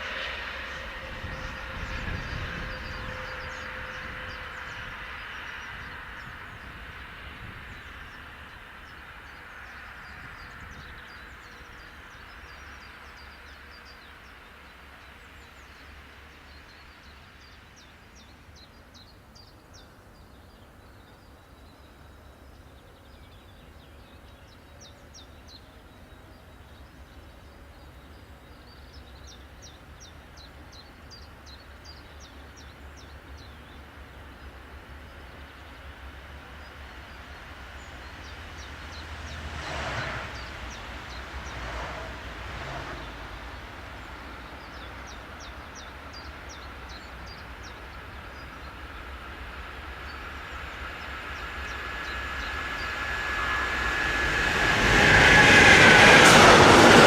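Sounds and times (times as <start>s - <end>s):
train rolling past: 0.0s - 57.0s.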